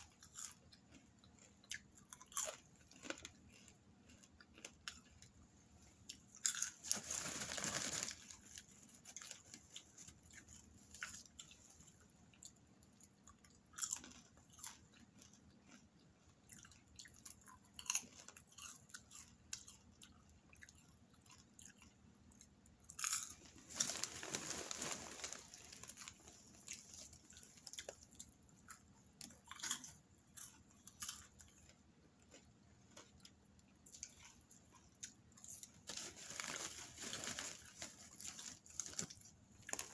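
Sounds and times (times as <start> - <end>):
popcorn chewing crunches: 0.0 - 39.9.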